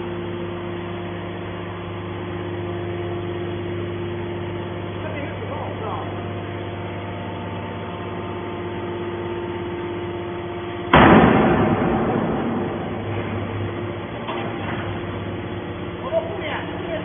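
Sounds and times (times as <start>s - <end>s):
heavy machinery humming: 0.0s - 17.0s.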